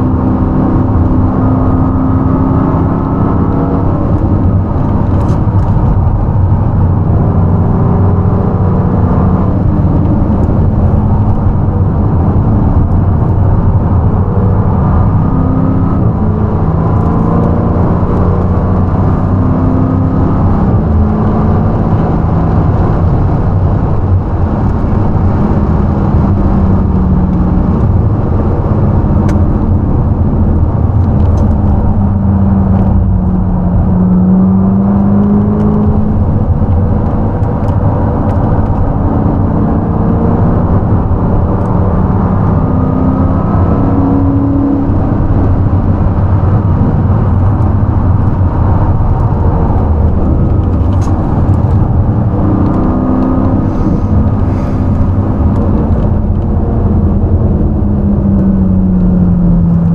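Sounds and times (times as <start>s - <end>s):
car engine revving: 0.0s - 59.9s
road and wind rumble: 0.0s - 59.9s.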